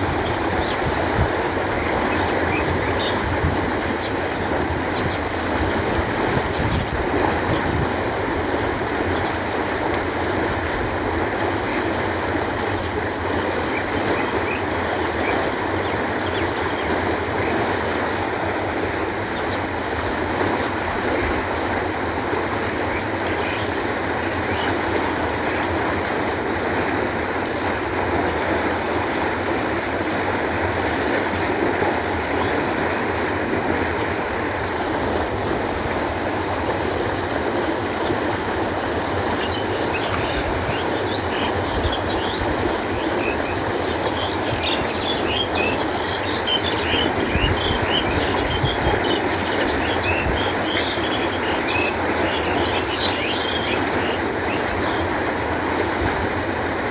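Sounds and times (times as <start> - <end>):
canal water flowing: 0.0 - 56.9.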